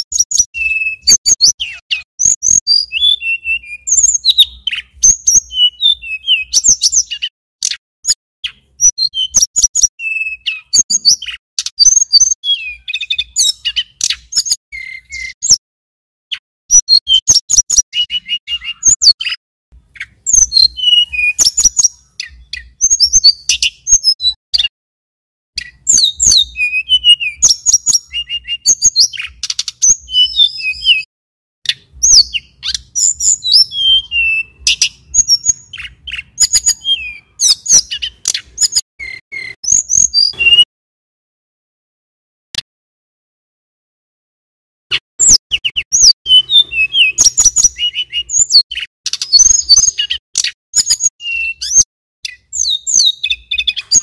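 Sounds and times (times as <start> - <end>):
bird chirping and trilling: 0.0 - 15.6, 16.3 - 24.7, 25.6 - 31.1, 31.7 - 40.7, 44.9 - 54.0.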